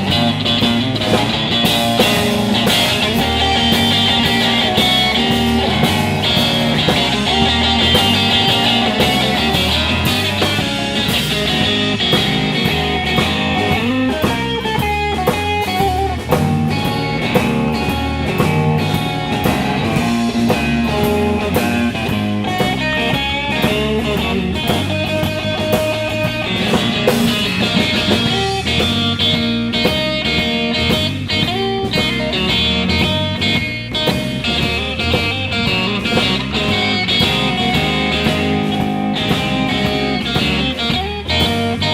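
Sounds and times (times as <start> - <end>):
blues-rock band playing: 0.0 - 41.9.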